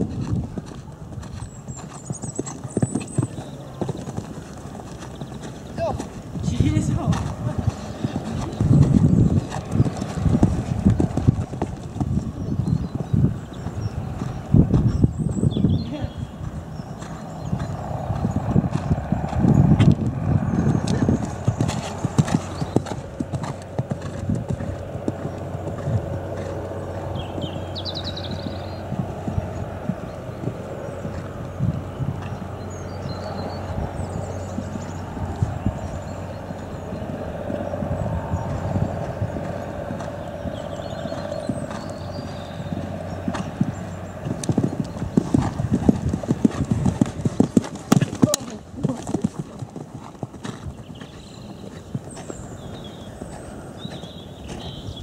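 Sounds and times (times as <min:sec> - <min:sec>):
hoofbeats on sand: 0:00.0 - 0:55.0.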